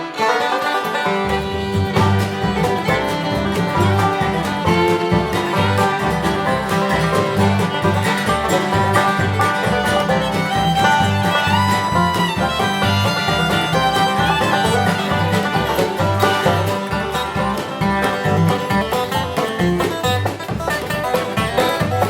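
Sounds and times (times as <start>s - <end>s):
bluegrass string band music: 0.0s - 22.0s.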